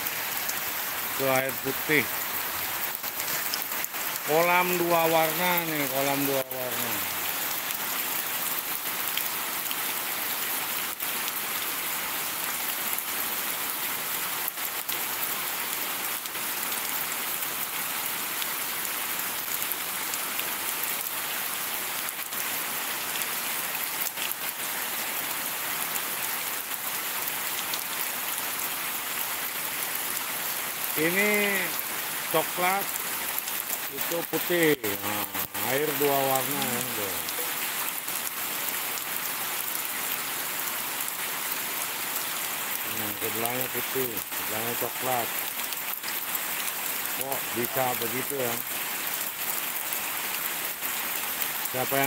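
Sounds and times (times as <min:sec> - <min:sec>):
rain hissing: 0:00.0 - 0:52.0.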